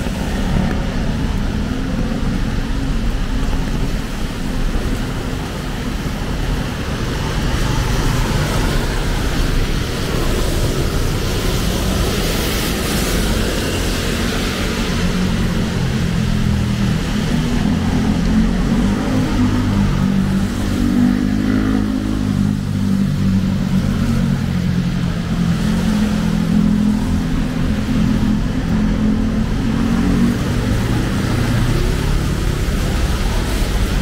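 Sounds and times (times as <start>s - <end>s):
car engines passing: 0.0s - 34.0s
rain hiss: 0.0s - 34.0s.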